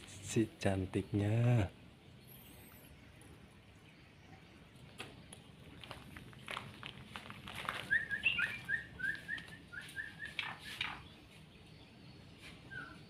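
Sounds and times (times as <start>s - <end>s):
bird chirping: 0.0s - 6.8s, 7.5s - 13.0s.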